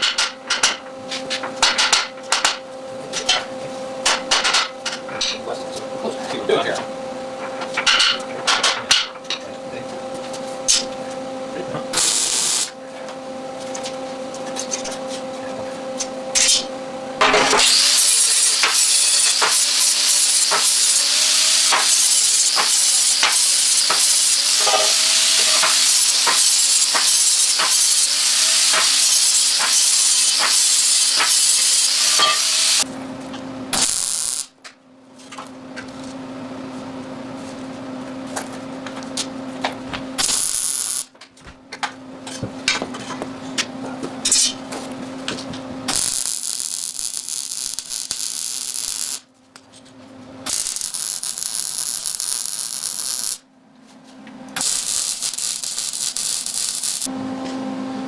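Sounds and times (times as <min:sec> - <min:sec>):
arc welding crackling sizzle: 0:00.0 - 0:36.1, 0:38.2 - 0:41.3, 0:44.2 - 0:49.7, 0:50.3 - 0:53.5, 0:54.5 - 0:57.1.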